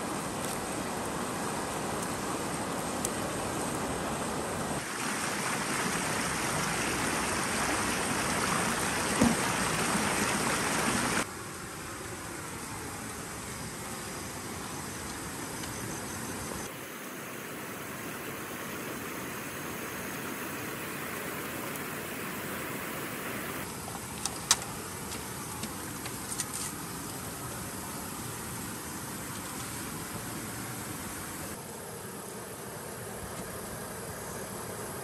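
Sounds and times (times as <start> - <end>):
night-time outdoor hiss: 0.0 - 35.0.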